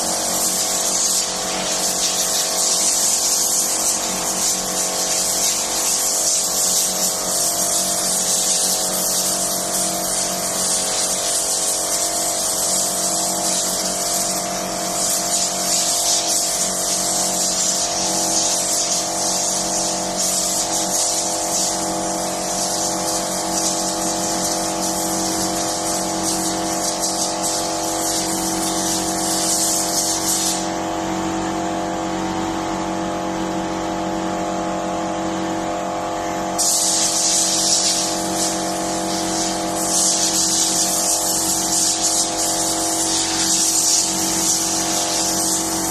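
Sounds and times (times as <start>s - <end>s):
hissing spray or air jet: 0.2s - 30.8s, 36.6s - 45.9s.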